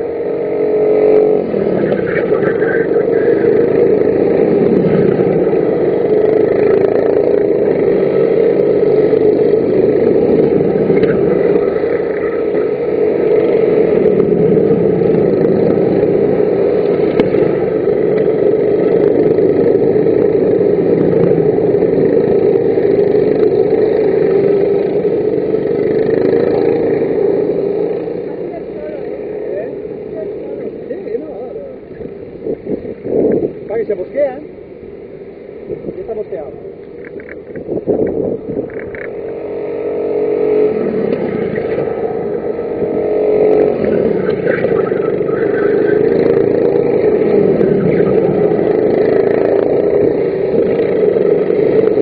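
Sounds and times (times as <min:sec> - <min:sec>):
racing kart engines droning: 0:00.0 - 0:52.0.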